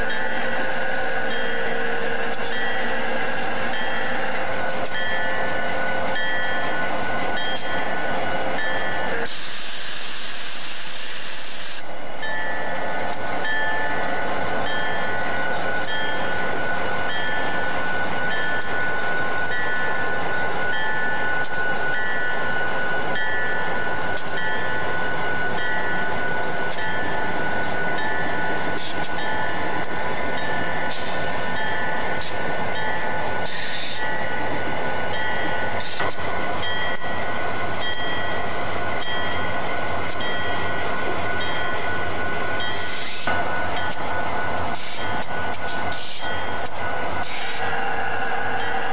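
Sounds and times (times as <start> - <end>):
locomotive bell ringing: 0.0 - 9.3, 12.2 - 12.8, 13.4 - 34.5, 35.1 - 46.9
diesel locomotives rolling past: 0.0 - 48.9.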